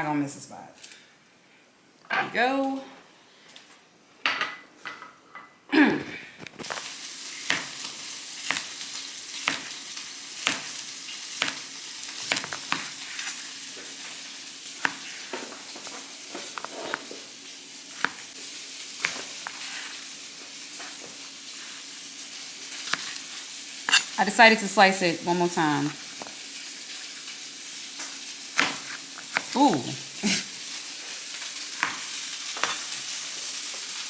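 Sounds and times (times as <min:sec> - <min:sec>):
food sizzling in a pan: 0:06.5 - 0:34.0.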